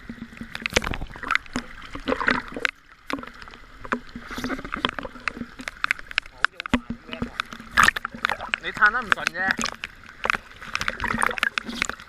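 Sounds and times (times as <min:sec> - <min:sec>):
sea water splashing: 0:00.0 - 0:12.0
knocks and clicks: 0:00.4 - 0:12.0.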